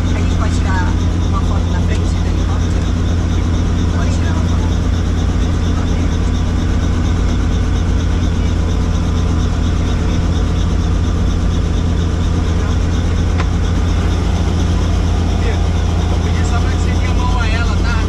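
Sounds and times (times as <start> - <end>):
helicopter flying: 0.0 - 18.0.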